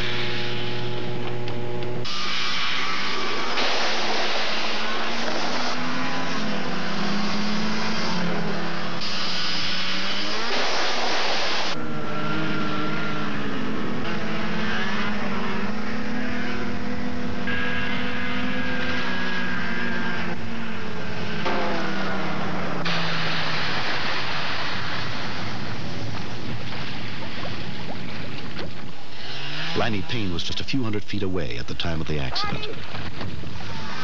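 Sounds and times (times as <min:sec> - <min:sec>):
snowmobile engine running: 0:02.7 - 0:12.1, 0:12.8 - 0:31.3.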